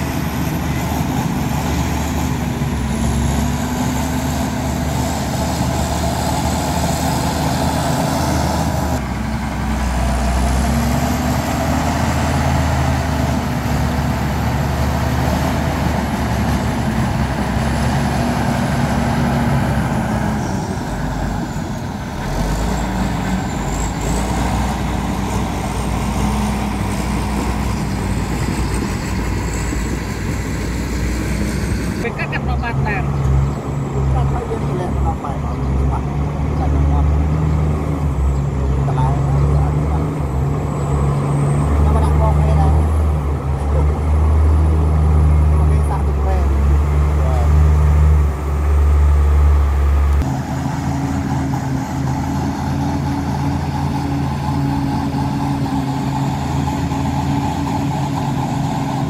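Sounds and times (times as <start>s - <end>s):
heavy diesel machinery engines: 0.0s - 59.0s.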